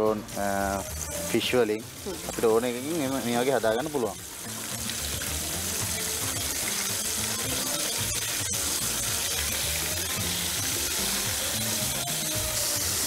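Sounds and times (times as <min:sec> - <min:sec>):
background music with bass line: 0:00.0 - 0:13.0
prawns sizzling in hot oil: 0:00.0 - 0:13.0.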